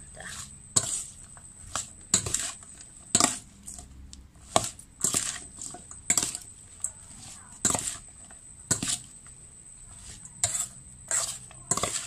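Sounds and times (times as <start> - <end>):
metal spoon scraping steel bowl: 0.3 - 6.5, 7.2 - 9.1, 9.8 - 12.0.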